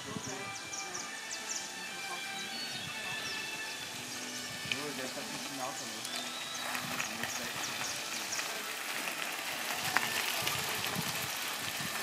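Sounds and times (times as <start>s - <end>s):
bike tyres crunching on gravel: 0.0s - 12.0s.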